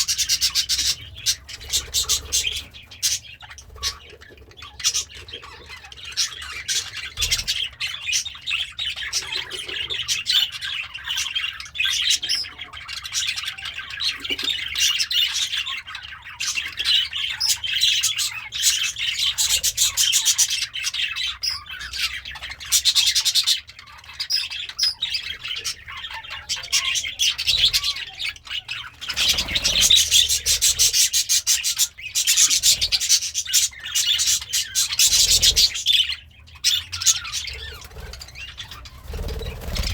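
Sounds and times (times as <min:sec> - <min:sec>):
budgerigar warbling and chattering: 0:00.0 - 0:39.9.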